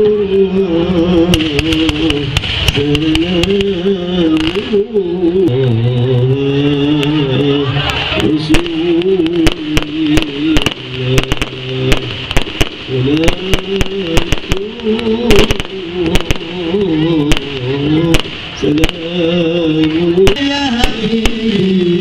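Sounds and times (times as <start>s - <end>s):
voice chanting a melody: 0.0s - 22.0s
fireworks bursting and crackling: 1.0s - 22.0s.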